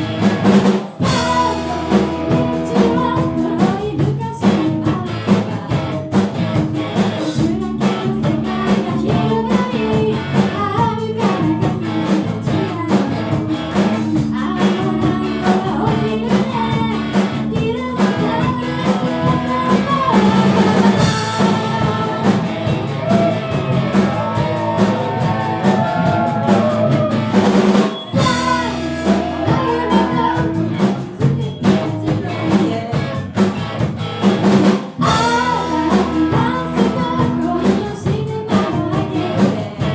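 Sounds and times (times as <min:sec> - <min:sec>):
person singing: 0:00.0 - 0:33.4, 0:35.0 - 0:39.9
bass and electric guitar: 0:00.0 - 0:39.9
drum kit beat: 0:00.0 - 0:39.9.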